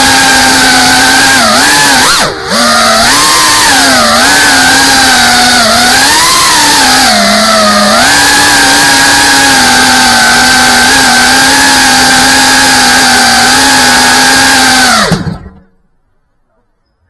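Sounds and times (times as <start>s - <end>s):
drone motors whining: 0.0s - 15.8s.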